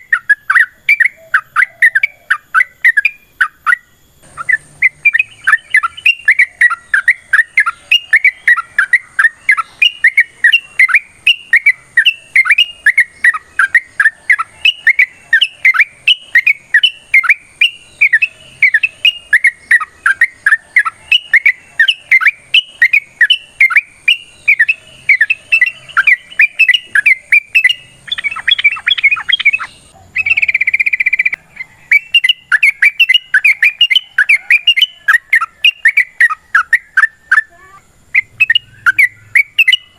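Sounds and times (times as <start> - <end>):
bird chirping: 0.0 - 39.9
bird scratchy chatter: 4.2 - 39.9.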